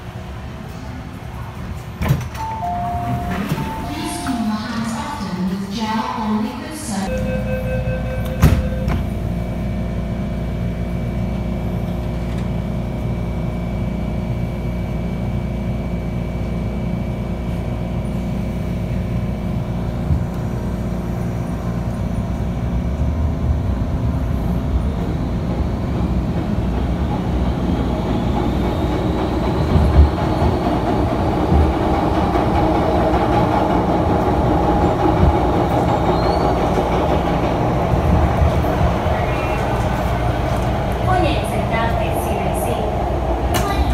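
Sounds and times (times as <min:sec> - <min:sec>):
train low hum: 0:00.0 - 0:43.9
wheels rumbling on rail: 0:00.0 - 0:43.9.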